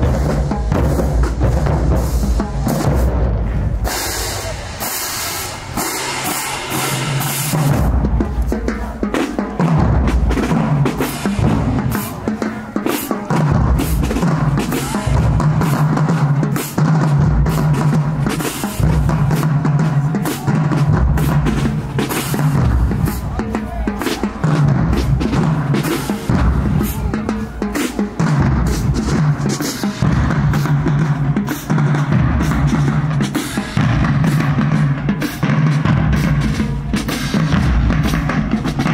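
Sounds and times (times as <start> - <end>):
marching band playing: 0.0 - 38.9
snare and bass drum cadence: 0.0 - 38.9.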